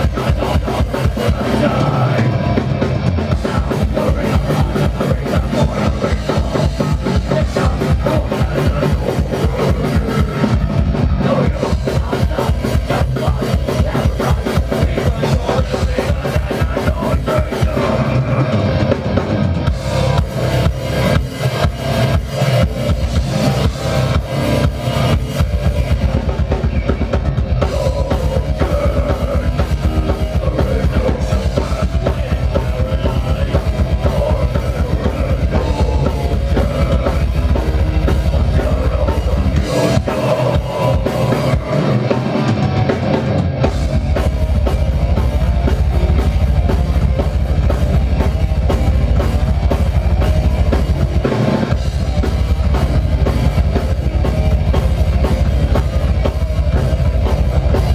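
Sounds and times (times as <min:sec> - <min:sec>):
metal band playing live: 0:00.0 - 0:57.9
rapid bass drum beat: 0:00.0 - 0:57.9.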